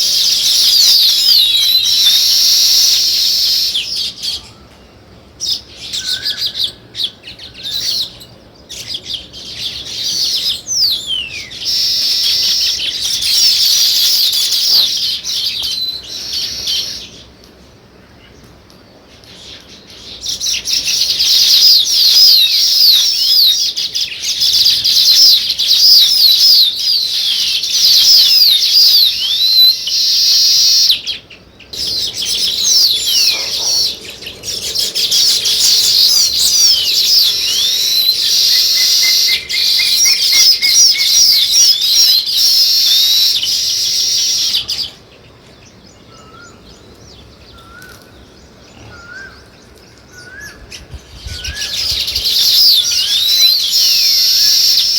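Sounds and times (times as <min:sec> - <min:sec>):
sparrows chirping: 0:00.0 - 0:54.9.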